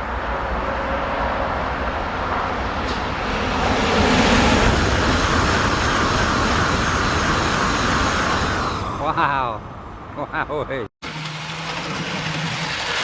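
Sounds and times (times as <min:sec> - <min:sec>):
train rushing rumble: 0:00.0 - 0:13.0.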